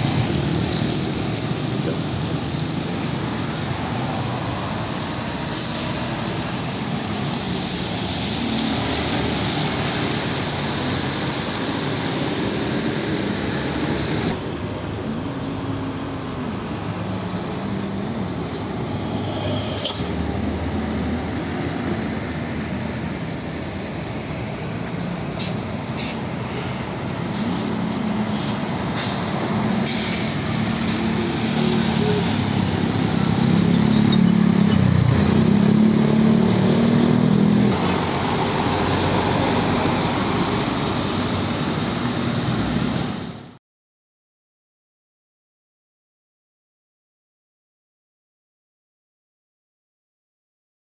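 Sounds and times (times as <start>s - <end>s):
diesel truck engines: 0.0s - 43.5s
tyres hissing on wet road: 0.0s - 43.6s.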